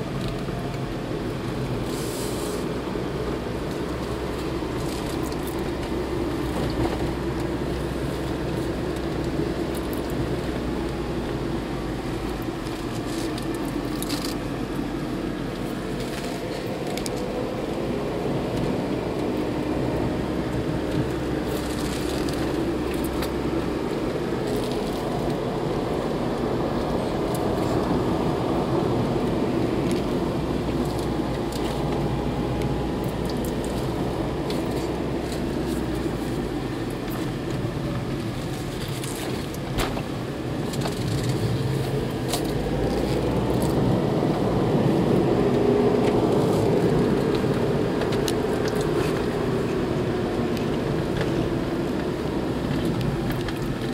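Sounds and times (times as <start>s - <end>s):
car engine: 0.0s - 53.9s
tyre road noise: 0.0s - 53.9s.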